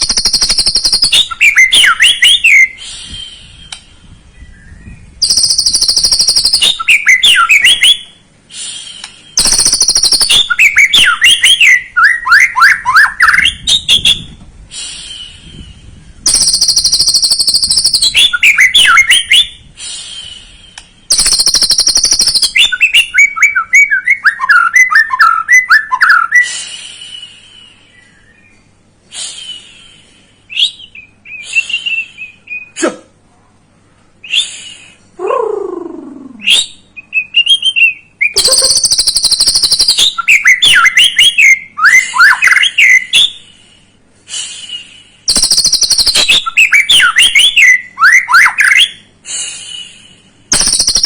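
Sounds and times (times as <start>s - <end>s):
bird singing: 0.0s - 8.2s, 8.9s - 14.3s, 15.1s - 19.6s, 20.2s - 26.5s, 27.2s - 28.8s, 29.5s - 32.8s, 35.2s - 43.5s, 45.3s - 49.1s, 50.5s - 51.0s.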